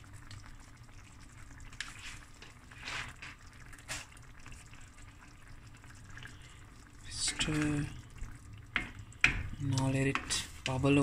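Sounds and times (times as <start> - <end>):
sauce simmering in a pan: 0.0 - 11.0.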